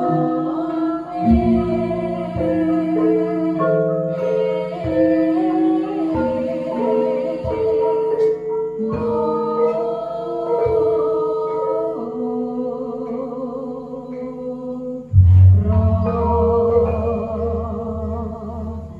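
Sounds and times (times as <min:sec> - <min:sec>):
gamelan ensemble playing: 0:00.0 - 0:14.4, 0:15.0 - 0:18.9
woman singing: 0:00.0 - 0:18.9.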